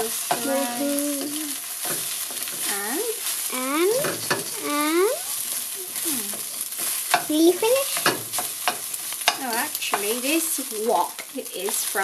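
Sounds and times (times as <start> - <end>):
rice sizzling in a wok: 0.0 - 12.0
wooden spatula scraping a wok: 1.2 - 10.8.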